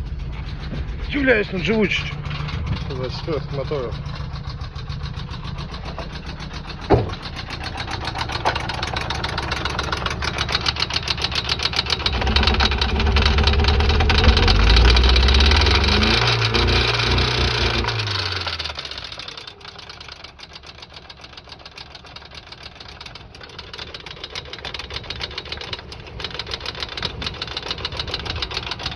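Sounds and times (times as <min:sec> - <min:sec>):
car engine running with rhythmic knock: 0:00.0 - 0:28.9.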